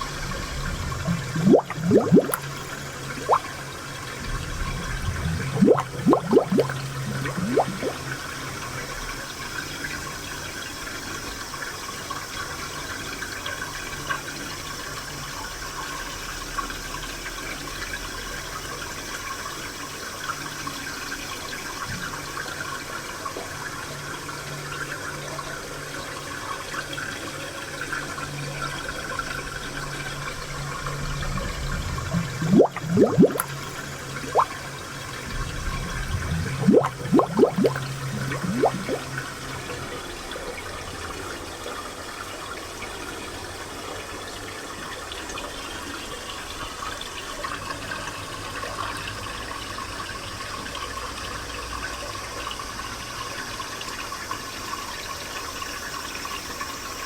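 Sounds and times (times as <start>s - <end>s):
spring water flowing and trickling: 0.0s - 57.0s
water gurgles: 0.0s - 57.0s.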